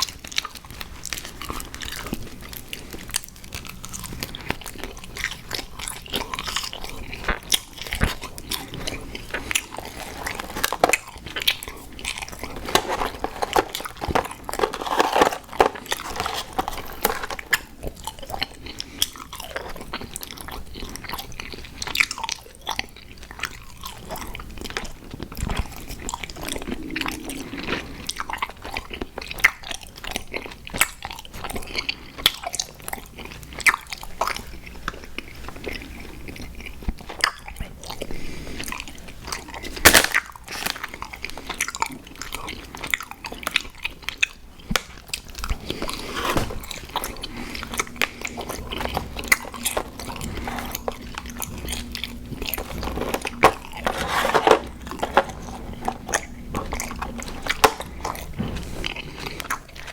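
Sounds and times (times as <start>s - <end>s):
chewing gummy cereal: 0.0s - 59.9s.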